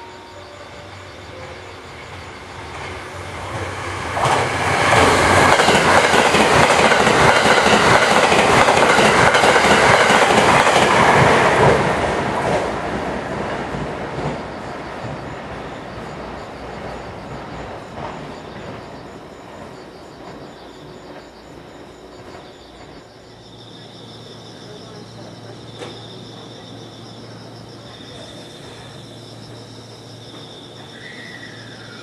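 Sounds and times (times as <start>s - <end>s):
train passing at speed: 0.0s - 32.0s.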